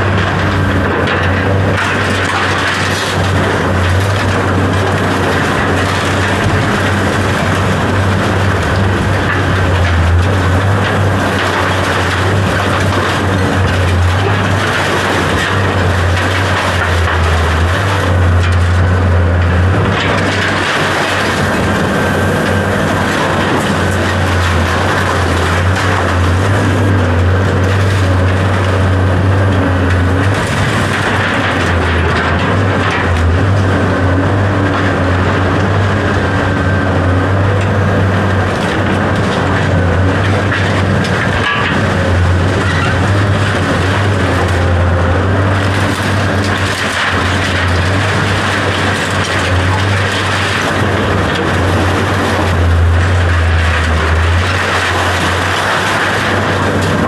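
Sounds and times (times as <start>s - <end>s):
machine humming and rushing: 0.0s - 57.0s.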